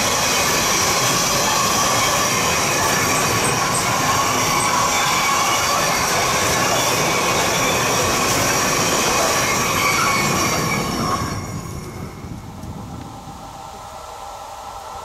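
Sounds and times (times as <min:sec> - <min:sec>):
train wheels squealing on rails: 0:00.0 - 0:12.8
freight train rolling past: 0:00.0 - 0:15.0.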